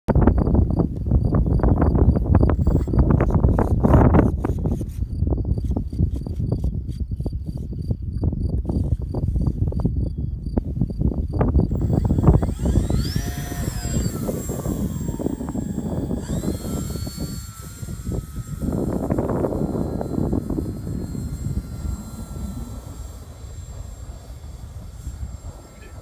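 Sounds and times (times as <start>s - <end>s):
wind buffeting microphone: 0.1s - 26.0s
model plane motor whine: 0.4s - 7.9s, 8.5s - 26.0s.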